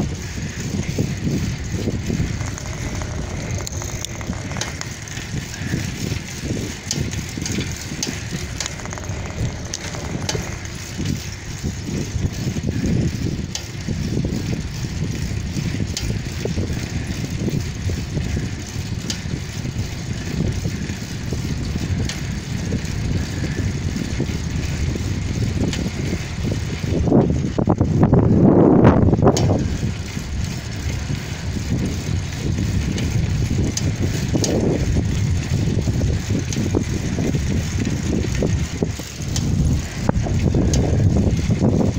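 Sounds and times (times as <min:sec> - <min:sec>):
bicycle tyres rumbling on asphalt: 0:00.0 - 0:41.9
wind buffeting microphone: 0:00.0 - 0:41.9
light clicks and rattles: 0:00.3 - 0:28.1, 0:29.0 - 0:41.9.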